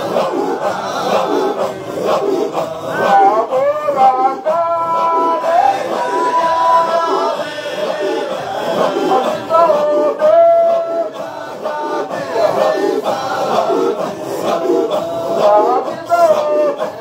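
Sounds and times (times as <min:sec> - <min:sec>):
group of voices chanting: 0:00.0 - 0:17.0.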